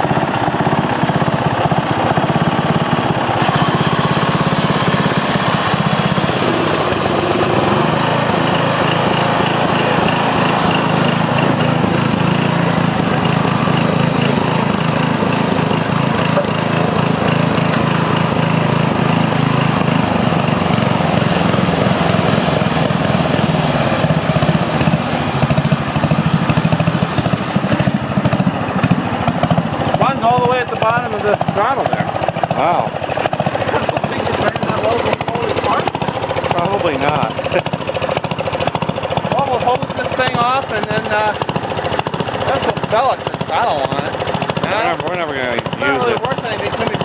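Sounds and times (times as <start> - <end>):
lawn tractor engine running: 0.0 - 47.0.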